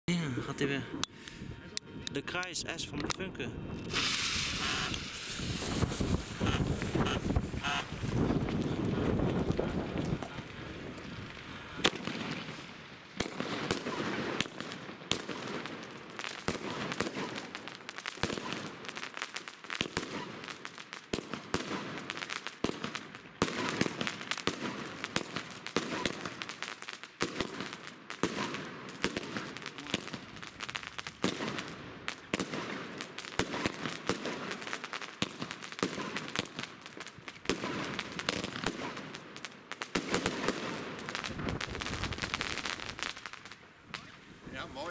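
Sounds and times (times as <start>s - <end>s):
firework shots and crackles: 2.4s - 44.9s.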